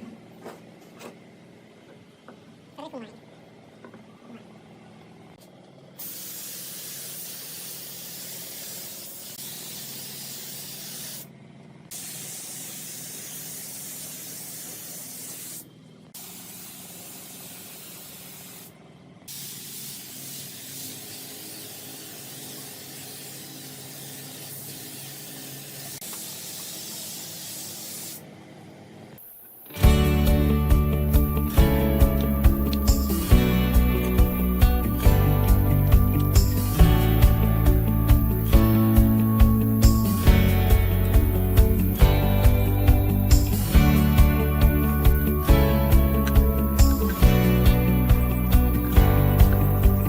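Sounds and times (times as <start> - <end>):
spray gun hissing: 6.0 - 11.3, 11.9 - 18.7, 19.3 - 28.2, 29.2 - 50.0.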